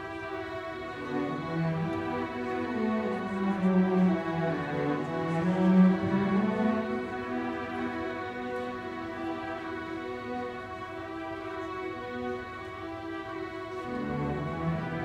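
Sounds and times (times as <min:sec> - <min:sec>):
string ensemble bowed notes: 0:00.0 - 0:15.0.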